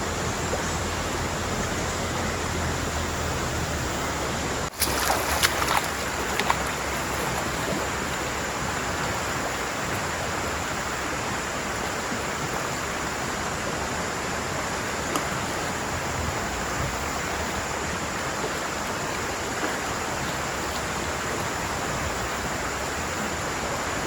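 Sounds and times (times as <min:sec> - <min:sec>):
rain: 0:00.0 - 0:24.0
rushing river water: 0:00.0 - 0:24.0.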